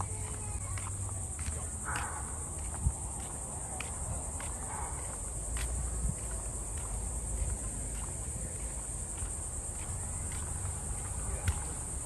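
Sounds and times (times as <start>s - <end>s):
footsteps: 0.0s - 12.0s
wind rumbling on microphone: 0.0s - 12.0s.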